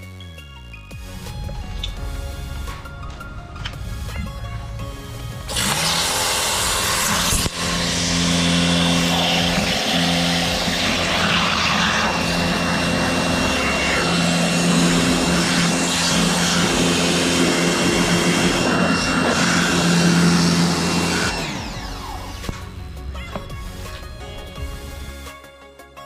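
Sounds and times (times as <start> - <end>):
pressure washer motor humming: 1.4 - 25.2.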